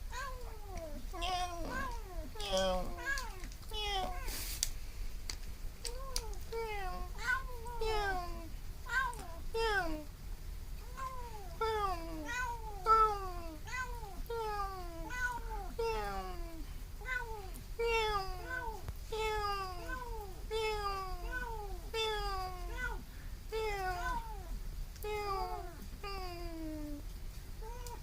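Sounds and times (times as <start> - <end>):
kitten meowing: 0.1 - 4.4, 5.9 - 10.1, 10.8 - 27.0.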